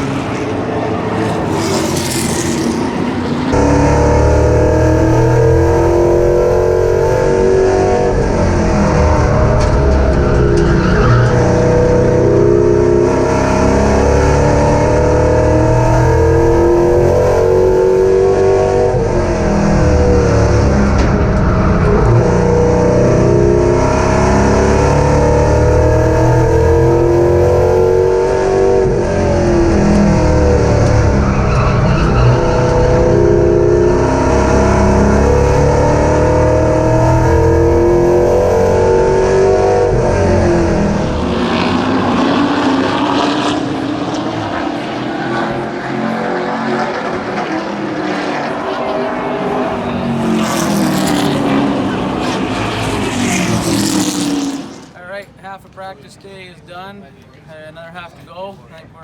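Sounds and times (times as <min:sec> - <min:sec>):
race car engine accelerating: 0:00.0 - 0:55.3.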